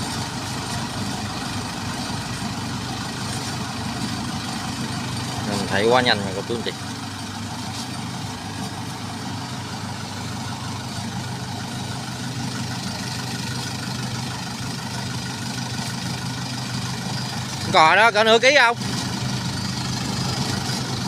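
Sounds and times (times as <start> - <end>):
combine harvester engine droning: 0.0 - 21.0.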